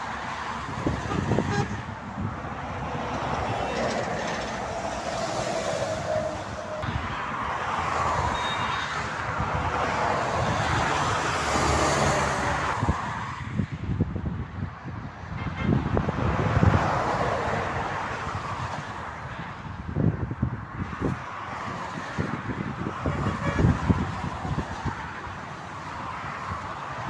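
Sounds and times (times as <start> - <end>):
vehicles passing at speed: 0.0 - 27.0.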